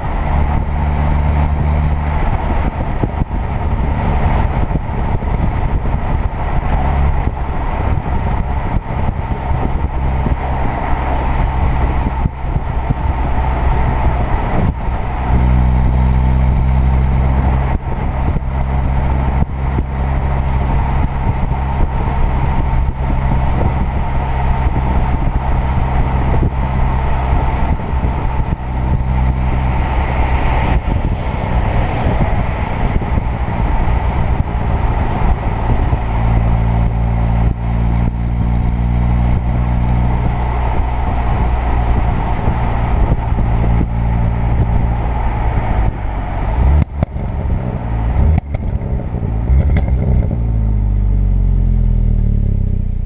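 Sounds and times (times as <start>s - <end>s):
car engine running: 0.0s - 53.0s
road noise: 0.0s - 53.0s.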